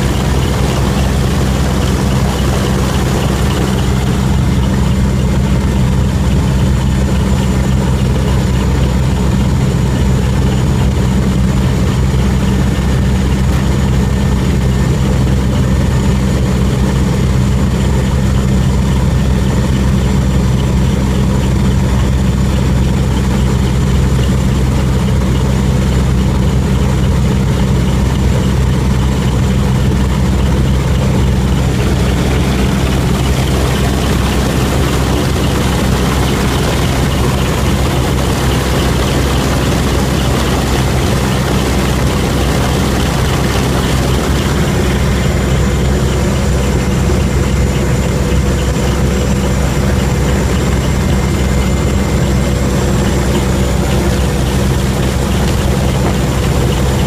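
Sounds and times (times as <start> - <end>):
aircraft engines droning: 0.0 - 57.0
high whine: 0.0 - 57.0.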